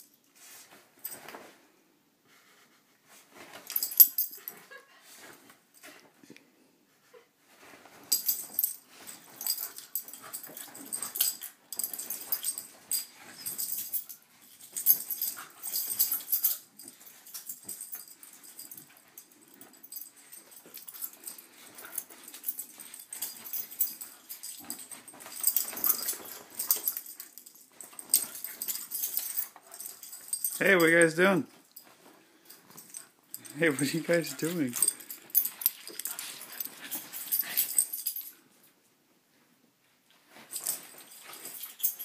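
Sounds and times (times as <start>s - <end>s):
bedding rustling: 0.1s - 6.2s, 6.9s - 38.8s, 39.8s - 42.0s.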